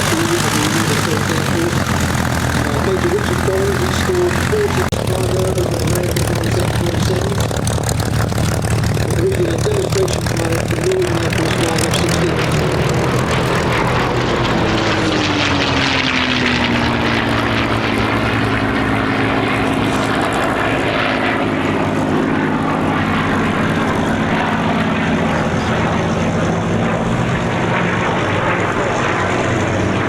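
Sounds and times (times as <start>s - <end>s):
propeller plane engines passing: 0.0s - 30.0s.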